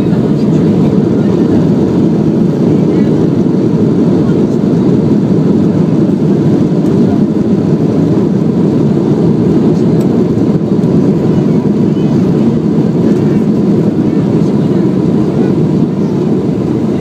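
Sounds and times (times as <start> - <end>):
faint steady whine: 0.0 - 17.0
jet engines rumbling: 0.0 - 17.0.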